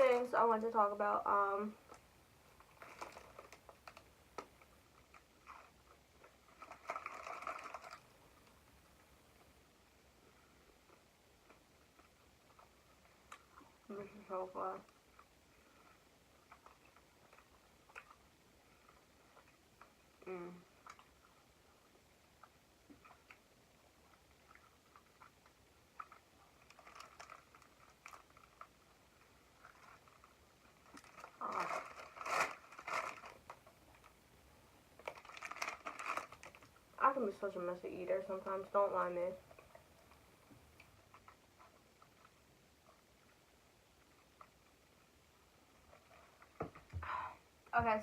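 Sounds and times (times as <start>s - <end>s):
crackling rustle of packaging: 1.5s - 47.0s.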